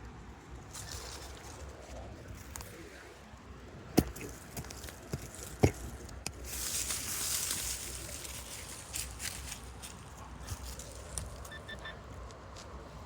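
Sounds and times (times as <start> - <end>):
scraping and rustling dirt: 0.0 - 13.0.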